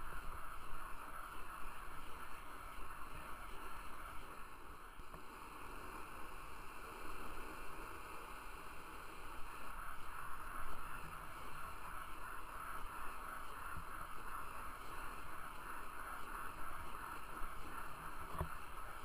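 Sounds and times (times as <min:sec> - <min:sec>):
skate wheels rolling on asphalt: 0:00.0 - 0:19.0.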